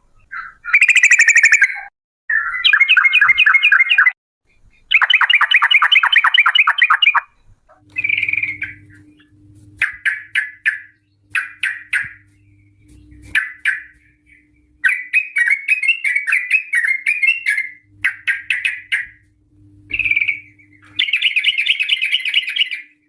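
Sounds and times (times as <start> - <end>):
bird singing rattling chirps: 0.2 - 19.3, 19.9 - 23.0.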